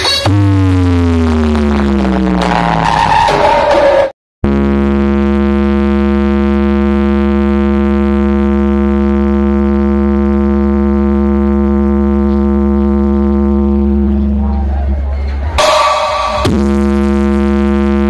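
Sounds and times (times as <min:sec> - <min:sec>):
low buzzy electronic drone: 0:00.0 - 0:03.5, 0:04.4 - 0:18.0.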